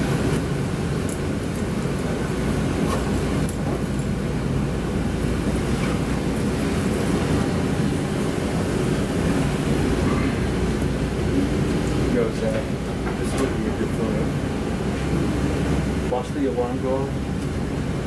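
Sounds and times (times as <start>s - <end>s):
aircraft cabin low rumble: 0.0s - 18.0s
ventilation air running: 0.0s - 18.0s.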